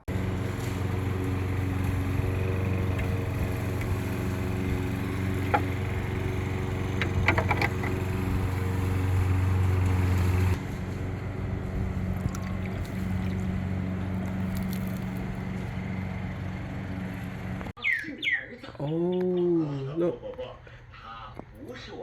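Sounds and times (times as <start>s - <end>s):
small engine droning hum: 0.0s - 17.8s.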